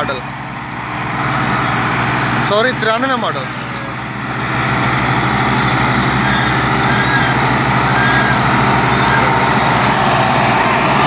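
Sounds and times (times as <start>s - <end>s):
tractor diesel engines under load: 0.0s - 11.0s.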